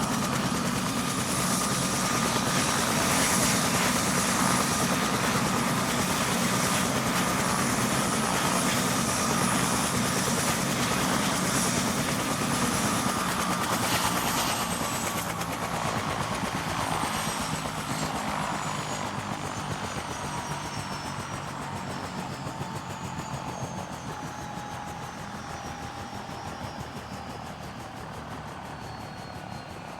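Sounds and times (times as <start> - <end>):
helicopter turbine and rotor: 0.0 - 29.9
turbine whine gliding lower: 0.0 - 29.9.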